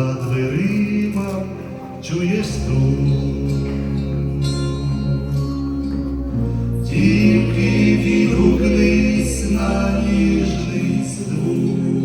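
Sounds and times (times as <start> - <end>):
instrumental backing with bass: 0.0 - 12.0
voices holding long notes: 0.0 - 12.0.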